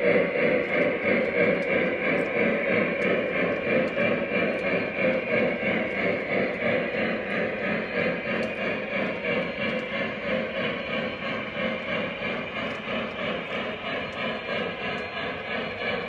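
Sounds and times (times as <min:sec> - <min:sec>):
model train wheels rumbling on rail: 0:00.0 - 0:16.0.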